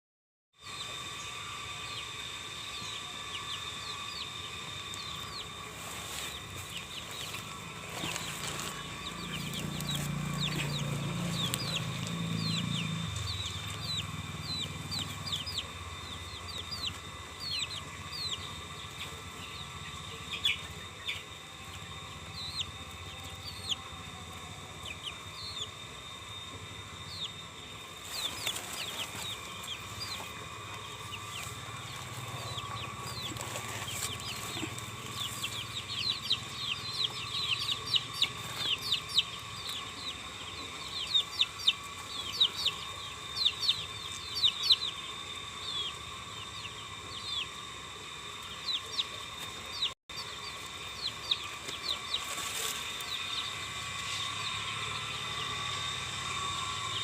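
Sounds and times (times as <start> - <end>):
birds chirping: 0.6 - 57.0
high-pitched hum: 0.6 - 57.0.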